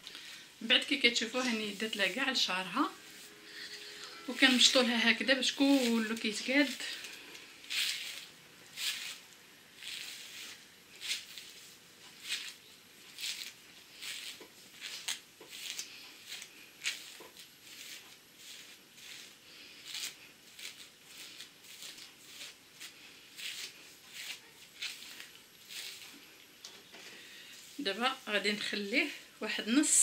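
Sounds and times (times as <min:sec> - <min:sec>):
comb swishing through wet hair: 0:01.2 - 0:26.4, 0:27.5 - 0:29.0.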